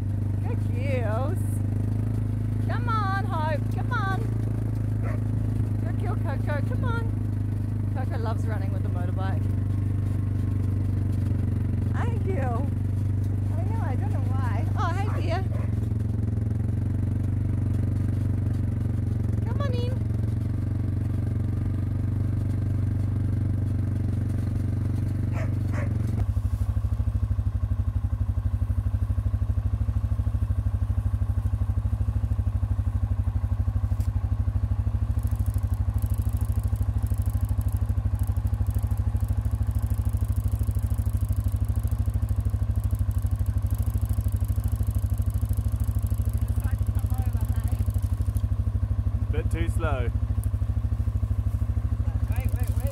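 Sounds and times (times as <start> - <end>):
motorbike engine idling: 0.0 - 52.9.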